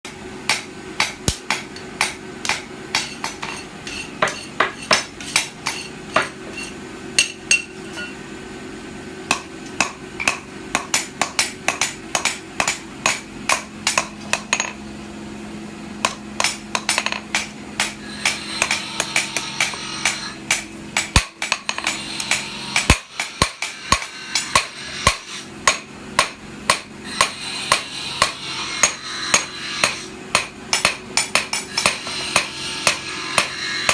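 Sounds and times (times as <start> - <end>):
hammer striking steel on anvil: 0.1 - 8.2, 9.3 - 14.8, 16.0 - 33.9.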